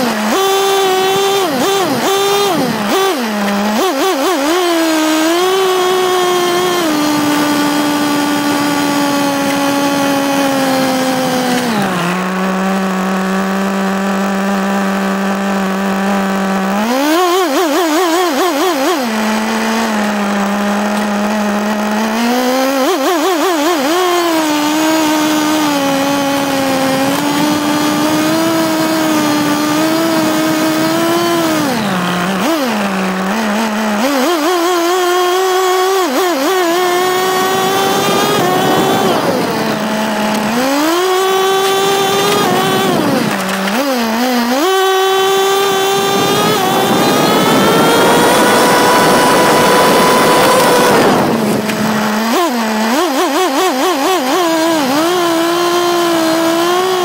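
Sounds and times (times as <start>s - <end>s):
rc car engine revving: 0.0s - 57.0s.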